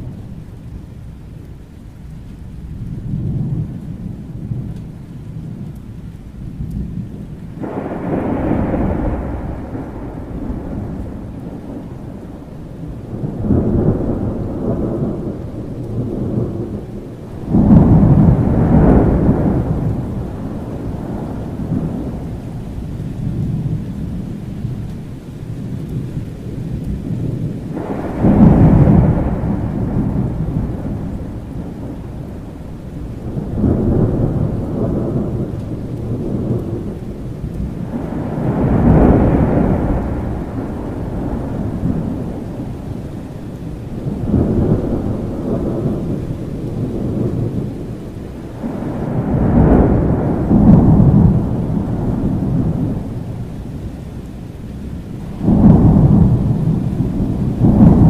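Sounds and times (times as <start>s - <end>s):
steady rain: 0.0s - 58.0s
rolls of thunder: 6.8s - 24.4s, 26.4s - 53.8s, 54.9s - 58.0s.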